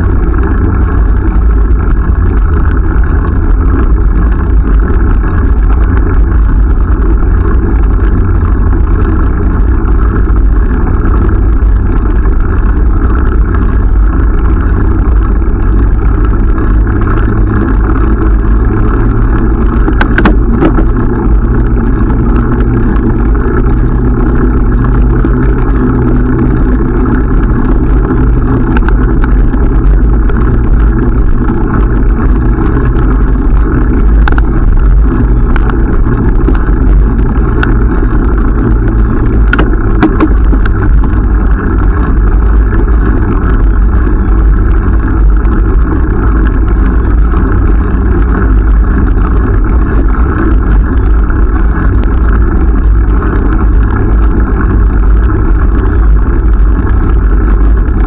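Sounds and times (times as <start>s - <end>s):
wind and tyre rumble: 0.0s - 58.0s.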